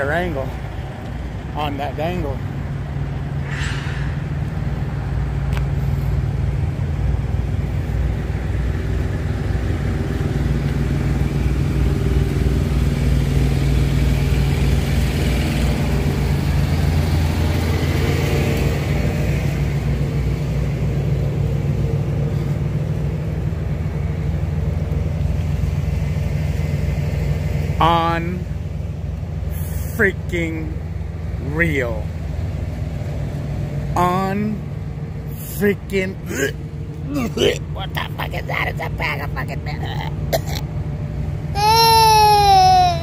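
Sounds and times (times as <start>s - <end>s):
diesel truck engine idling: 0.0s - 43.0s.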